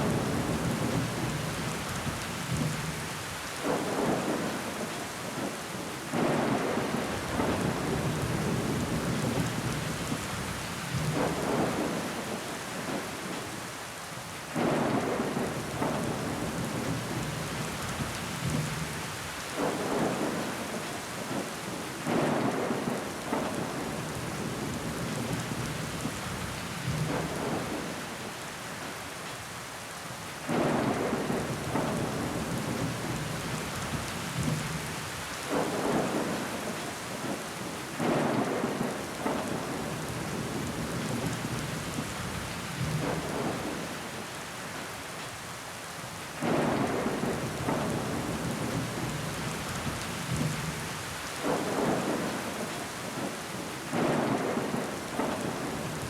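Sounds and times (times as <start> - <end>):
rain on window glass: 0.0 - 29.6, 30.4 - 56.0.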